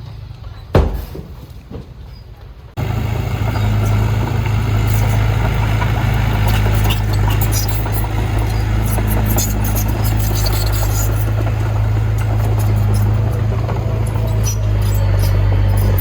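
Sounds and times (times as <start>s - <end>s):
diesel engine deep hum: 0.0s - 16.0s.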